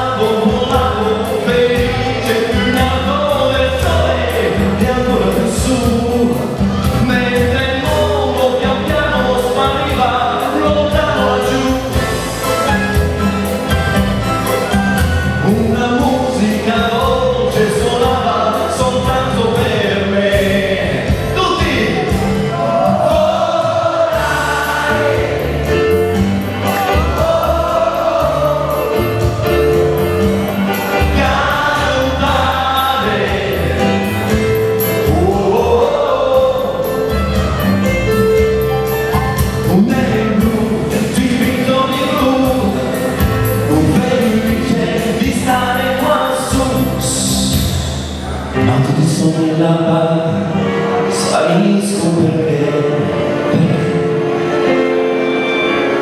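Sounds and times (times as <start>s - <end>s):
man singing into a microphone: 0.0s - 13.0s, 15.2s - 29.8s, 30.5s - 37.4s, 39.4s - 54.3s
electronic keyboard: 0.0s - 56.0s
pop accompaniment with steady beat: 0.0s - 56.0s.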